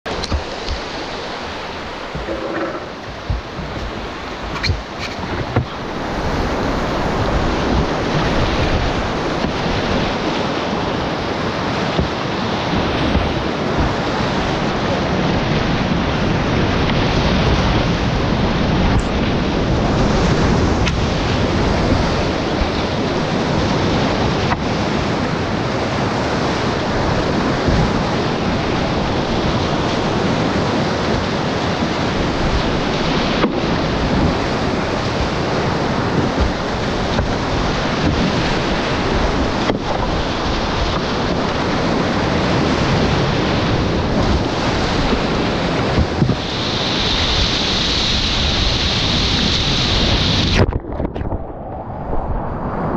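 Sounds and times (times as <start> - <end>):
wind buffeting microphone: 0.0 - 52.9
whitewater rapids rushing: 0.1 - 50.8.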